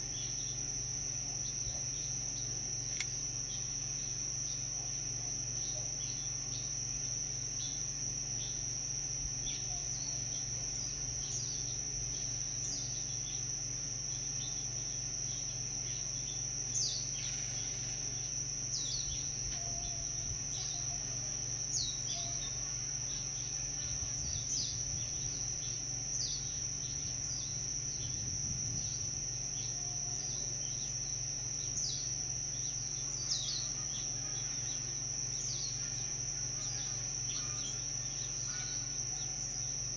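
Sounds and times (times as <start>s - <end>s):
faint low hum: 0.0s - 39.9s
high-pitched insect trill: 0.0s - 39.9s.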